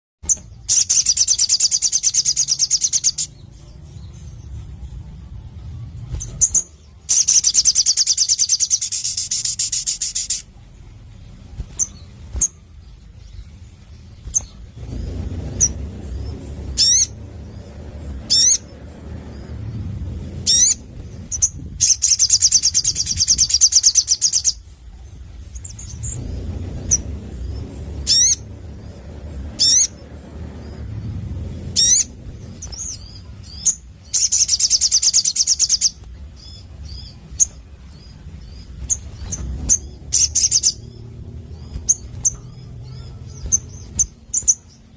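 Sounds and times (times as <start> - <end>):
bird rattling trills: 0.2 - 44.9
bird sharp sweeping chirps: 0.2 - 44.9.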